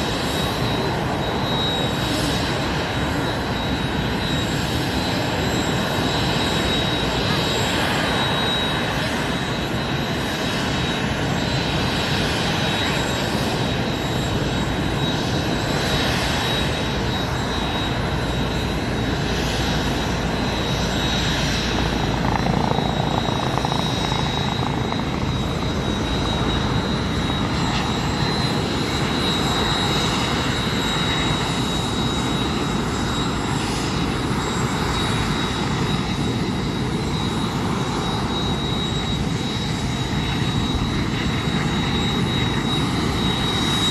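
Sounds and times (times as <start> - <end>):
helicopter rotor and engine: 0.0 - 43.9.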